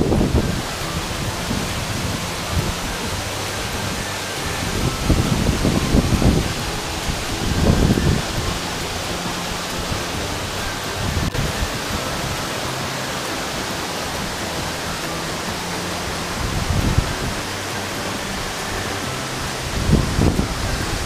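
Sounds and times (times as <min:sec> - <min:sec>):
stream running over rocks: 0:00.0 - 0:21.0
waterfall rushing: 0:00.0 - 0:21.0.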